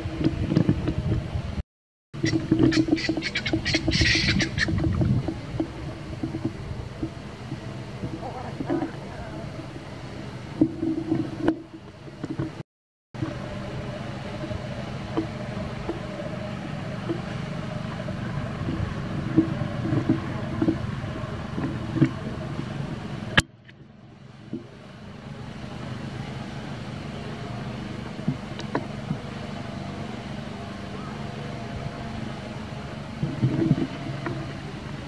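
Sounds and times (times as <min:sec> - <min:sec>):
motor traffic rumble: 0:00.0 - 0:35.0.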